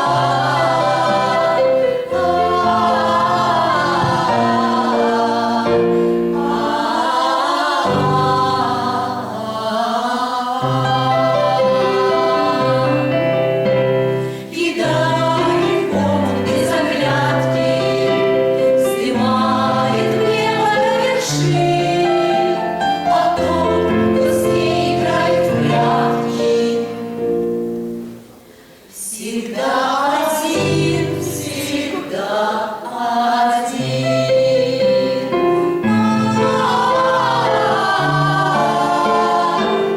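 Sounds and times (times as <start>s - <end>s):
women singing in harmony: 0.0s - 27.9s, 28.8s - 39.9s.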